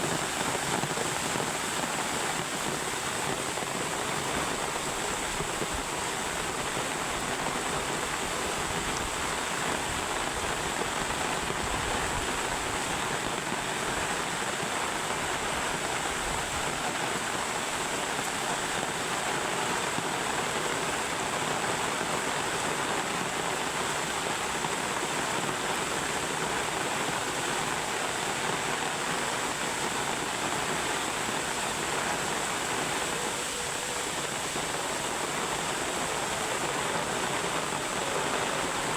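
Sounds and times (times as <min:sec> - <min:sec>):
heavy rain falling: 0:00.0 - 0:38.9
river rushing: 0:00.0 - 0:38.9.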